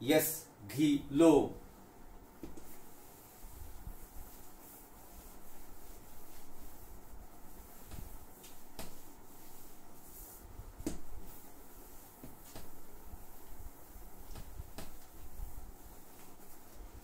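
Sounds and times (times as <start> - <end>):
cloth rubbing on whiteboard: 1.6 - 17.0.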